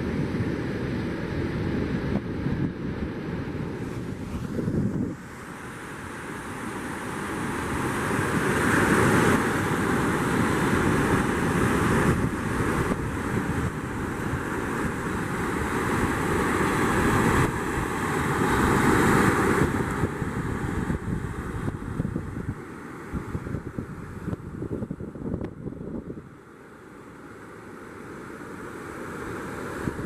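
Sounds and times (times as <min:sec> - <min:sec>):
wind buffeting microphone: 0:00.0 - 0:26.4, 0:29.6 - 0:30.0
surf washing: 0:00.0 - 0:30.0.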